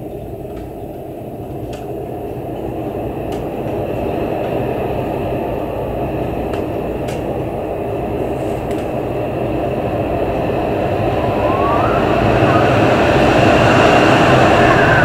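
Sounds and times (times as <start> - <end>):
storm-force wind blowing: 0.0 - 15.0.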